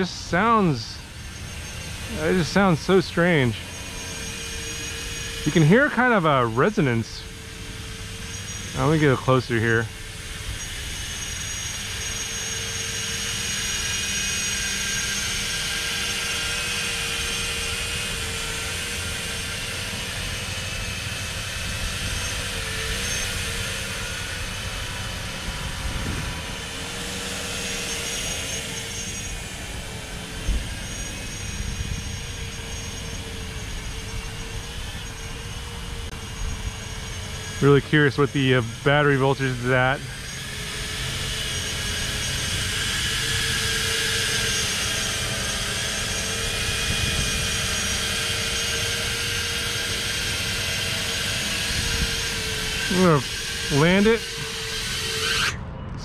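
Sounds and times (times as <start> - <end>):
drone hovering with whine: 0.0 - 56.0.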